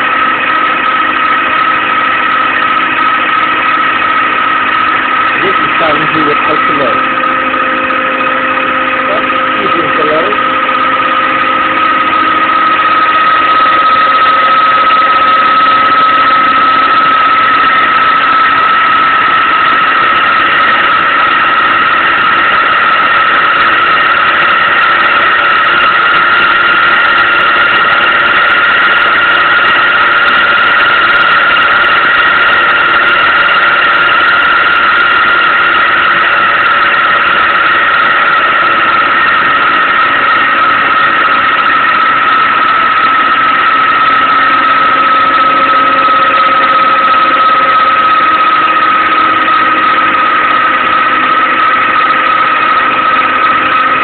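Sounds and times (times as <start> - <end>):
electric motor high whine: 0.0 - 54.0.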